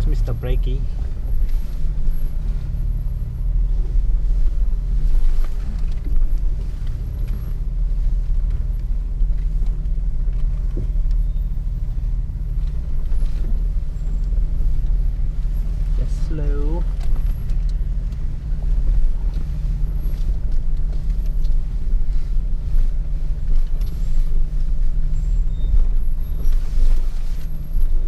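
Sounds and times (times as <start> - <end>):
vehicle engine running low: 0.0 - 28.0.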